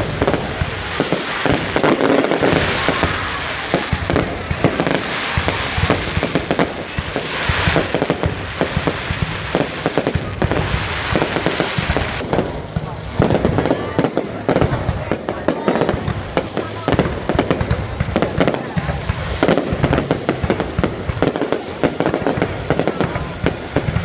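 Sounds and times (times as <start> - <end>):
fireworks bangs and crackles: 0.0 - 24.0
fireworks hissing: 0.0 - 24.0.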